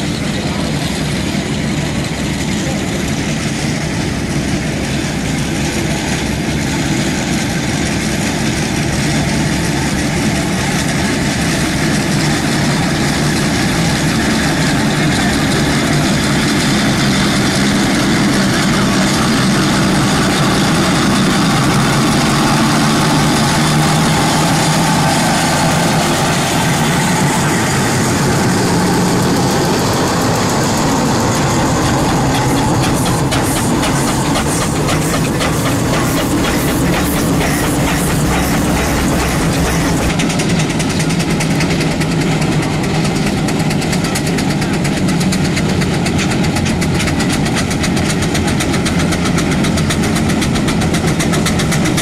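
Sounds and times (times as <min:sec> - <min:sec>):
steam traction engines running: 0:00.0 - 0:52.0.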